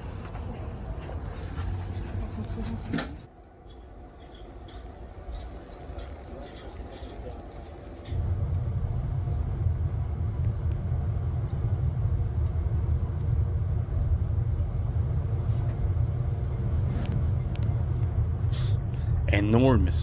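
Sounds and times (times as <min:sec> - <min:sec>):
moving train rumble: 0:00.0 - 0:20.0.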